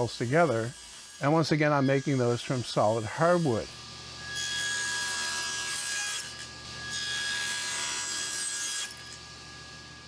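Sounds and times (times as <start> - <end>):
table saw cutting wood: 0.0 - 10.0.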